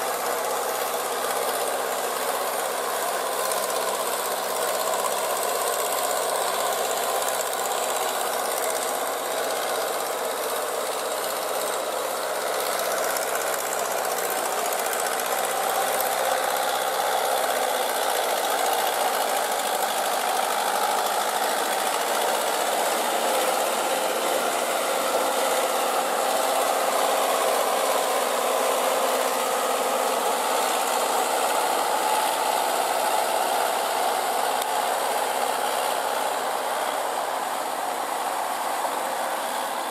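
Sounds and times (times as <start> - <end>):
diesel tractor engine under load: 0.0 - 39.9.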